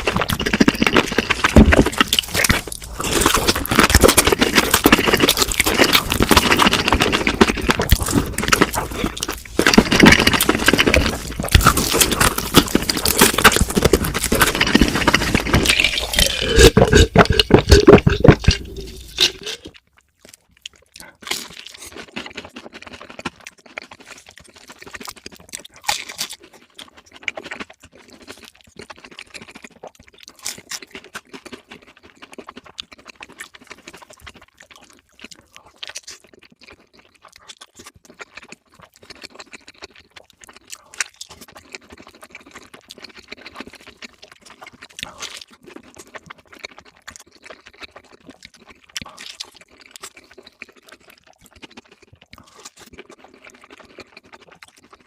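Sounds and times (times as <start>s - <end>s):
crunching crispy food: 0.0s - 55.0s
quiet chewing with smacks: 0.0s - 55.0s.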